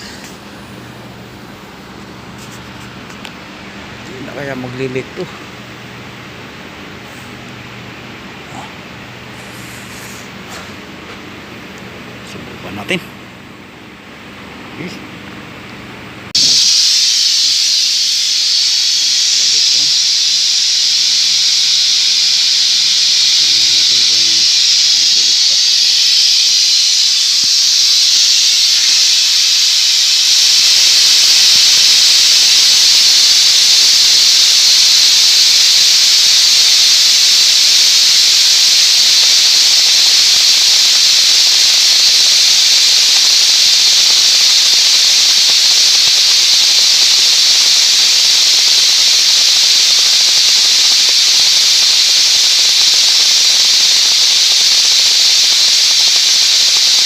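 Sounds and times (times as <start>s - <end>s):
compressed air hissing: 0.0s - 10.9s, 16.3s - 57.0s.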